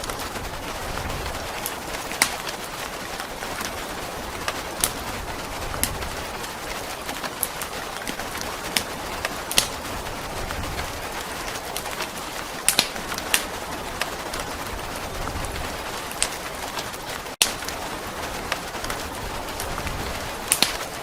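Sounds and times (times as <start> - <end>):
steady rain hiss: 0.0 - 21.0
wood fire crackling: 0.0 - 21.0.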